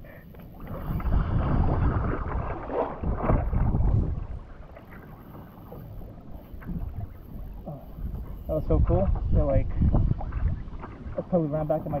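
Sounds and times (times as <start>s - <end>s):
wind buffeting microphone: 0.5s - 12.0s
water washing around a kayak: 0.6s - 12.0s.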